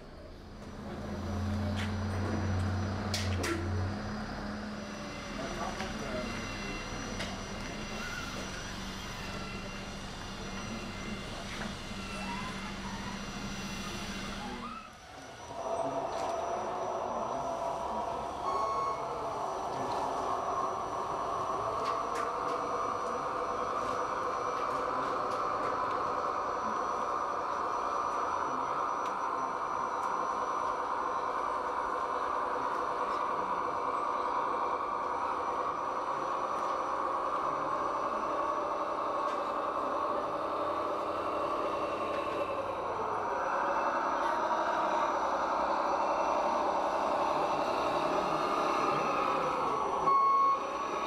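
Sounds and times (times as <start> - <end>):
model trucks whirring: 0.0 - 51.0.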